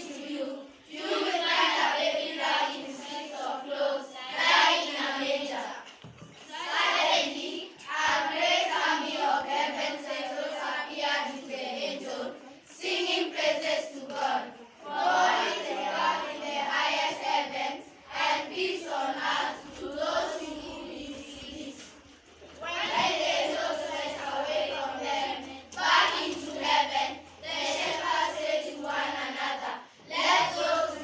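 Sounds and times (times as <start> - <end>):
children's voices in unison: 0.0 - 31.0.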